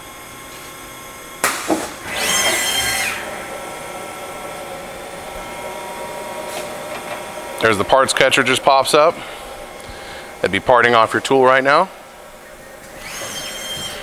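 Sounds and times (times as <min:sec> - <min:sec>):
lathe spindle whine: 0:02.0 - 0:14.0
machine whirring burst: 0:02.0 - 0:14.0.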